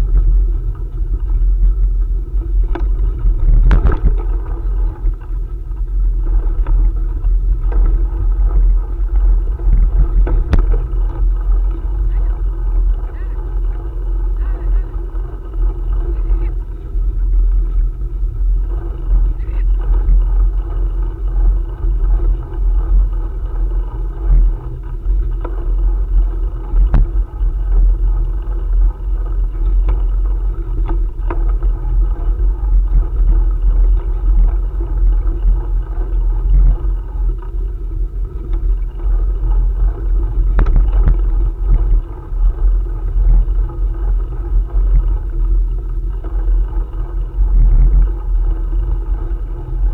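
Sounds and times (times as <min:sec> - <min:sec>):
wind and riding noise: 0:00.0 - 0:49.9.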